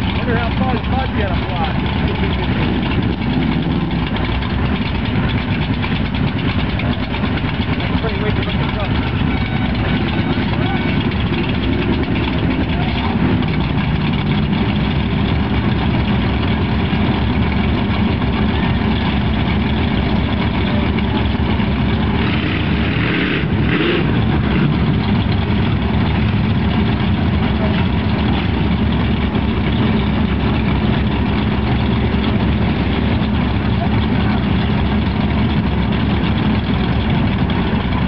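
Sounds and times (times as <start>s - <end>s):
pickup engine idling: 0.0s - 38.0s.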